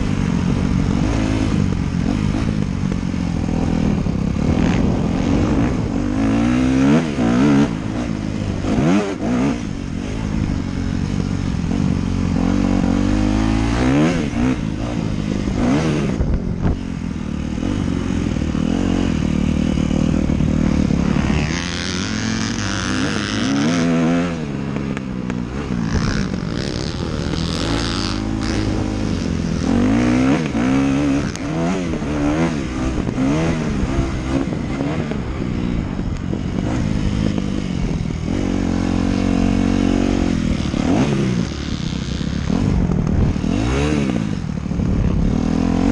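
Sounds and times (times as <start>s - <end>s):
dirt bike engine revving: 0.0s - 45.9s
wind noise on microphone: 0.0s - 45.9s.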